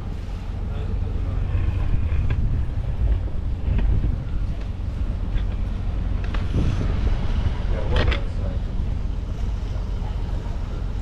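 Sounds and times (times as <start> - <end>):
boat engine low rumble: 0.0 - 11.0
wind buffeting microphone: 0.0 - 11.0.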